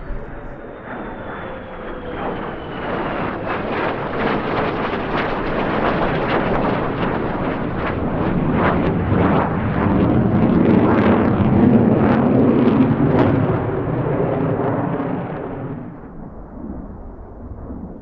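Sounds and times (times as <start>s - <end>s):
jet engine rumble passing overhead: 0.0s - 18.0s.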